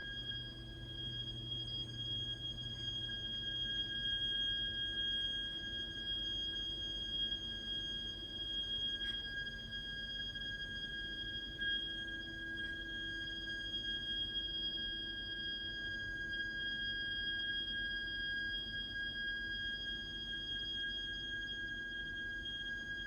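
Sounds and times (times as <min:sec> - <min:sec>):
heating pipes shrieking whistle: 0:00.0 - 0:23.0.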